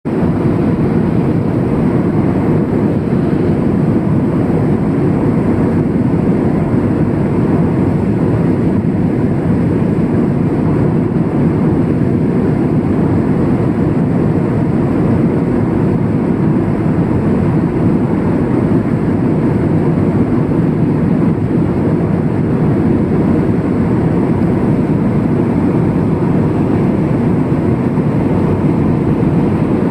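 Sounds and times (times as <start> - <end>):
aircraft cabin engine drone: 0.1 - 29.9.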